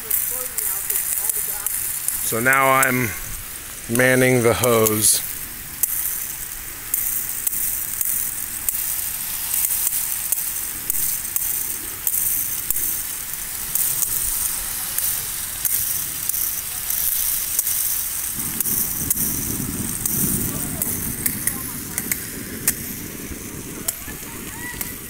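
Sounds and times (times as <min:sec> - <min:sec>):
fire crackling and popping: 0:00.0 - 0:25.0
water sizzling on flames: 0:00.0 - 0:25.0.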